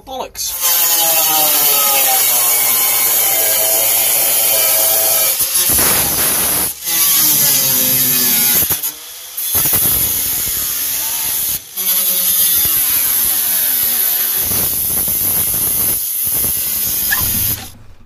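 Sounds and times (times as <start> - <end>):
angle grinder cutting sheet metal: 0.5 - 17.8.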